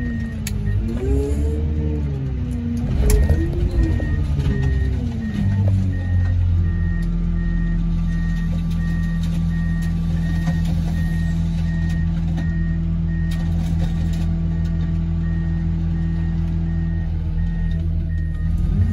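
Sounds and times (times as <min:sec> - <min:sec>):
reversing alarm beeping: 0:00.0 - 0:01.3, 0:03.0 - 0:13.4, 0:14.0 - 0:18.9
vehicle engine running: 0:00.0 - 0:18.9.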